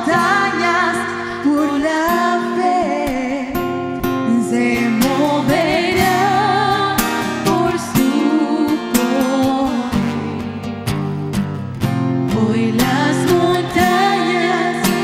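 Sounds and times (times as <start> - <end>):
woman singing worship song: 0.0 - 10.6, 12.3 - 15.0.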